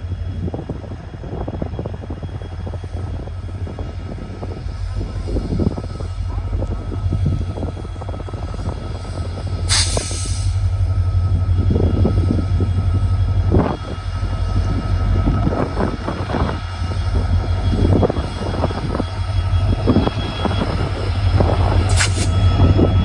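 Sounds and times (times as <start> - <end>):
diesel locomotive engine droning: 0.0 - 23.0
train wheels and couplings clanking: 0.0 - 23.0.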